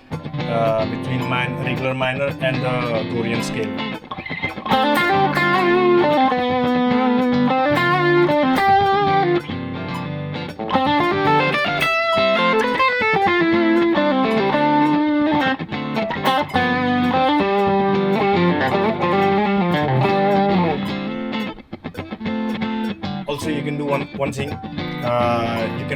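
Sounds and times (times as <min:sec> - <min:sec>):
electric guitar melody: 0:00.0 - 0:25.9.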